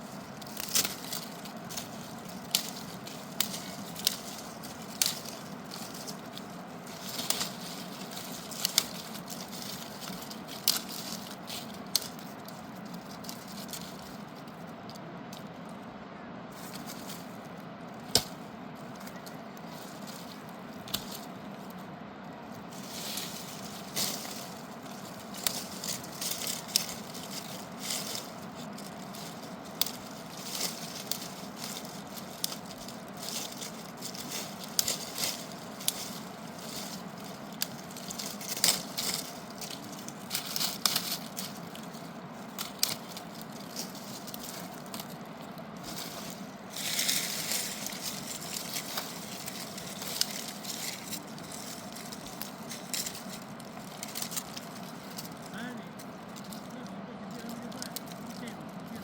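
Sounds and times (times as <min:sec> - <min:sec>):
crackles clicks and knocks: 0:00.0 - 0:15.6, 0:22.5 - 0:59.0
rustling: 0:00.0 - 0:15.8, 0:16.5 - 0:59.0.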